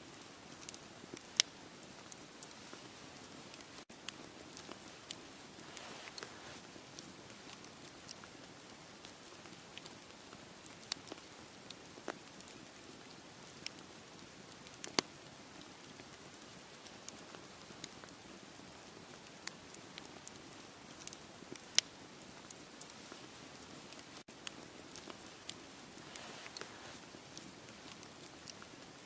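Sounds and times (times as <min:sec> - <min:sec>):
steady hiss: 0:00.0 - 0:12.8, 0:16.3 - 0:29.0
campfire crackling and popping: 0:00.1 - 0:29.0.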